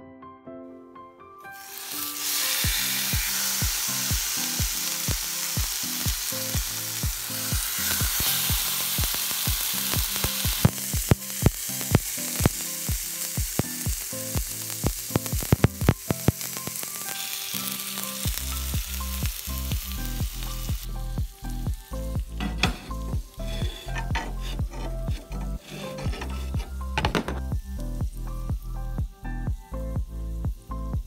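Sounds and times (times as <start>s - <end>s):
chicken sizzling in hot pan: 1.5s - 29.0s.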